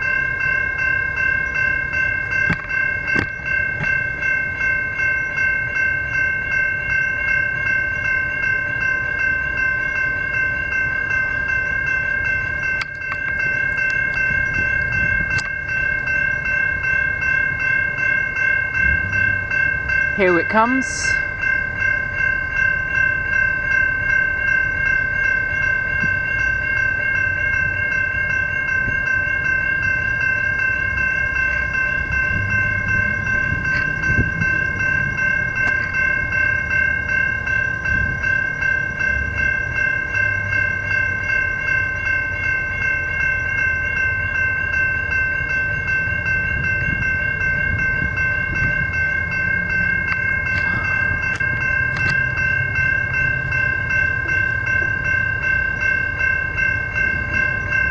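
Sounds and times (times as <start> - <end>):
level crossing bells ringing: 0.0 - 57.9
train passing rumble: 0.0 - 57.9.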